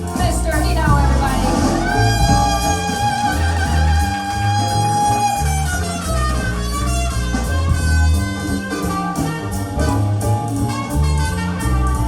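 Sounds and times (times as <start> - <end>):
bass line: 0.0 - 12.0
electric guitar solo: 0.1 - 9.9.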